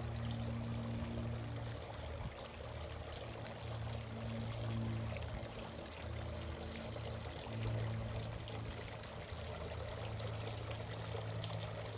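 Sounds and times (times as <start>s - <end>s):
low hum: 0.0s - 11.9s
water trickling in bird bath: 0.0s - 11.9s.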